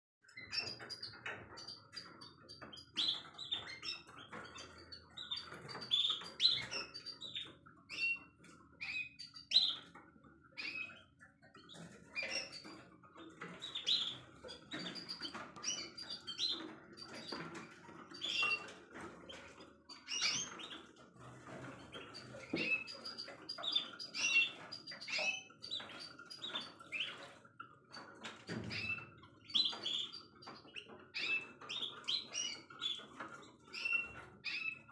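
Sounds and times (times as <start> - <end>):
canaries chirping: 0.3 - 34.9.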